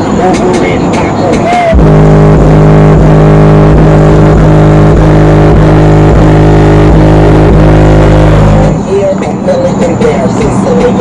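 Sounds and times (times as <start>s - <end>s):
bass hits: 0.0s - 8.8s
distorted rap music on subwoofers: 0.0s - 11.0s.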